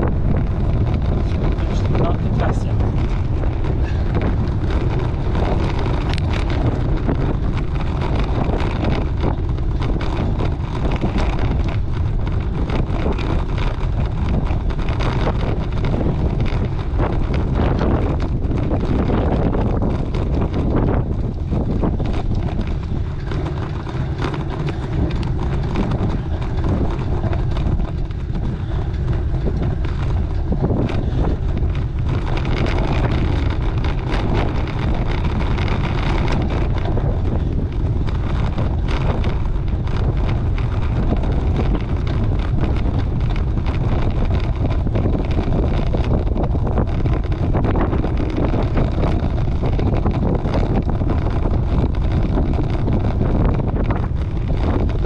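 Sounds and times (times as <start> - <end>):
knocks from rough road: 0.0 - 55.0
wind buffeting microphone: 0.0 - 55.0.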